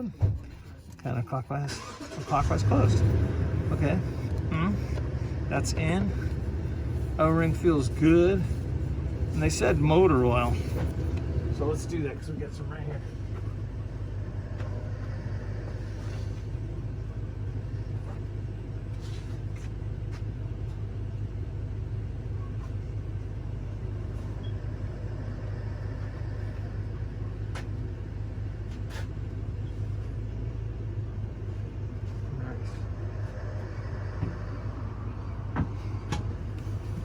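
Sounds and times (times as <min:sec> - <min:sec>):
low mechanical drone: 0:00.0 - 0:37.0.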